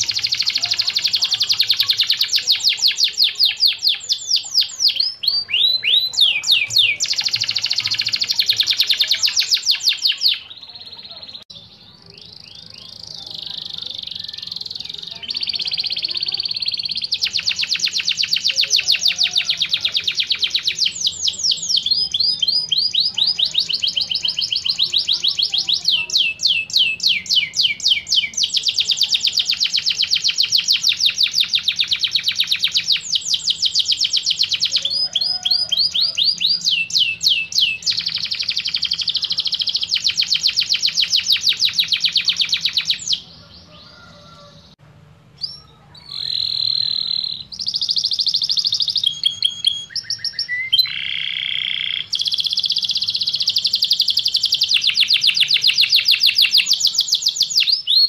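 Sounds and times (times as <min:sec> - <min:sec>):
canary singing trills: 0:00.0 - 0:44.8, 0:45.4 - 0:58.0.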